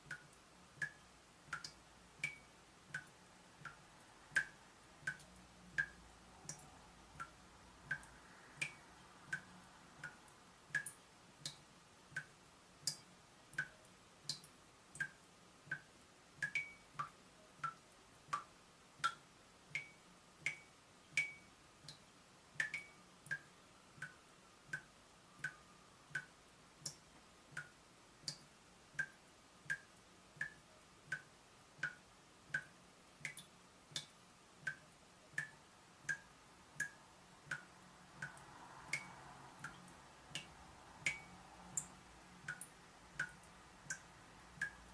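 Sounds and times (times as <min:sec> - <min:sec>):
tap dripping water drops: 0:00.0 - 0:22.0, 0:22.6 - 0:34.8, 0:35.4 - 0:44.8.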